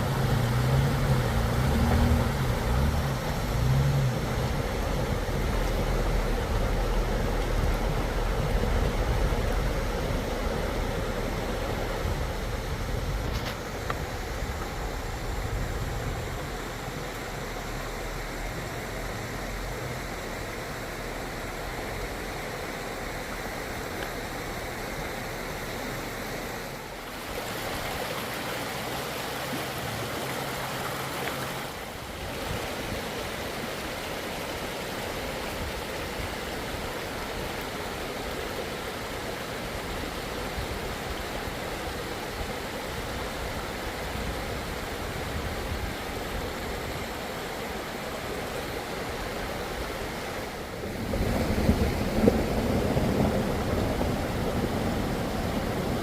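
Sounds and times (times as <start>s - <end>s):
rushing floodwater: 0.0s - 56.0s.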